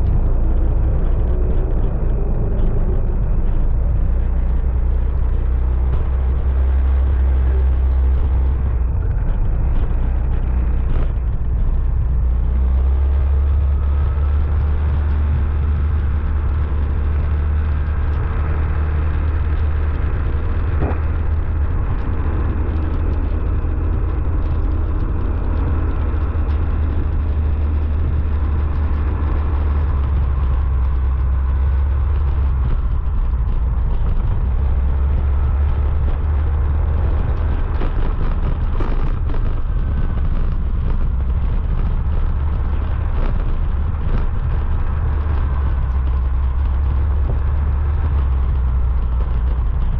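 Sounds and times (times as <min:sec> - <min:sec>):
motorcycle engine rumble: 0:00.0 - 0:49.9
wind on microphone: 0:00.0 - 0:49.9.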